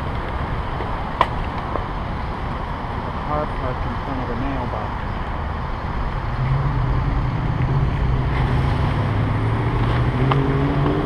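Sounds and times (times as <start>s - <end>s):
vehicle engine hum: 0.0s - 11.0s
wind noise on microphone: 0.0s - 11.0s.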